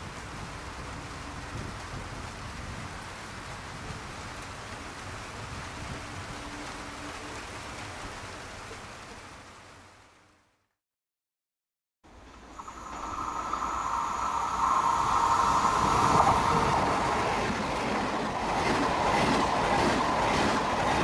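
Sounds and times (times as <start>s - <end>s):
steady rain falling: 0.0s - 10.7s, 12.1s - 21.0s.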